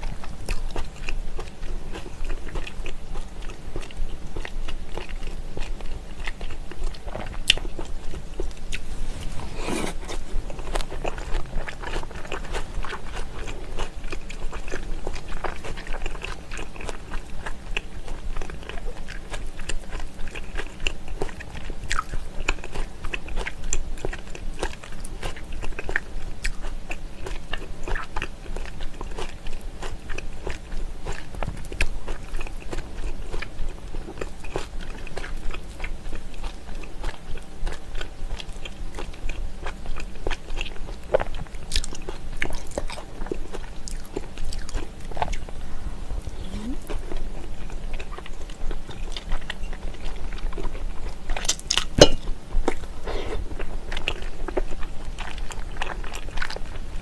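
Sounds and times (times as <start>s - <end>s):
wet chewing and mouth smacks: 0.0s - 8.9s, 9.8s - 56.8s.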